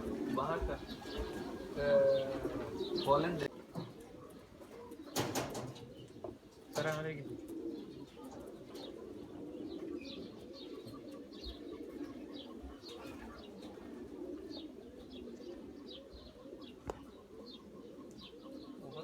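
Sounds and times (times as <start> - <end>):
pigeons cooing: 0.0 - 19.0
small birds chirping: 0.0 - 19.0.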